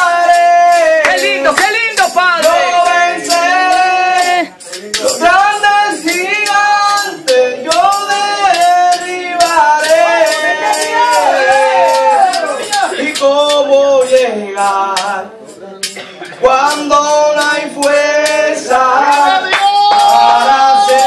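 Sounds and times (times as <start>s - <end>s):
backing track with rattling percussion: 0.0s - 21.0s
man singing into a microphone: 0.0s - 21.0s.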